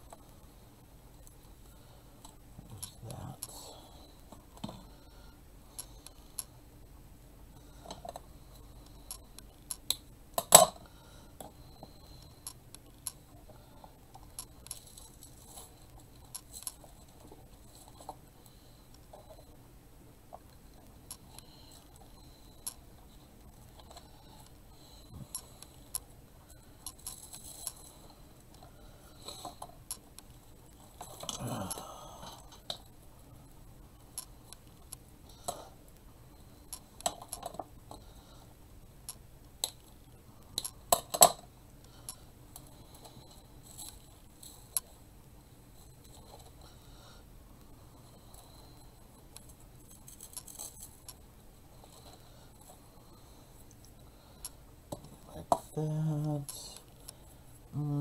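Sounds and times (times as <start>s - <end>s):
artificial flower stems clicking and rustling: 1.2s - 6.6s, 7.6s - 19.6s, 20.2s - 57.7s.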